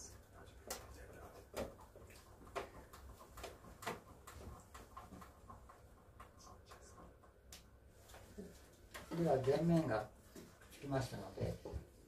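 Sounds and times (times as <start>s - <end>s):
faint wooden clicks and knocks: 0.0s - 10.8s.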